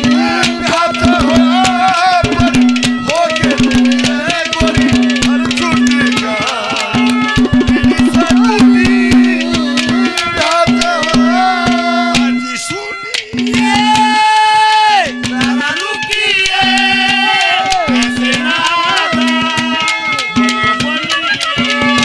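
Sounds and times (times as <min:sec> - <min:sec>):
rapid hand drum strokes: 0:00.0 - 0:14.3, 0:15.0 - 0:22.0
wavering melody line: 0:00.0 - 0:22.0.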